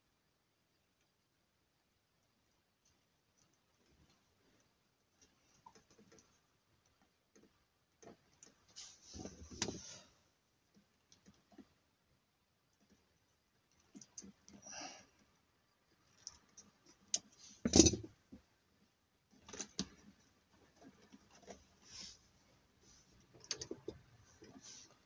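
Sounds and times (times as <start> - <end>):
small clicks and rustles: 2.1 - 25.0.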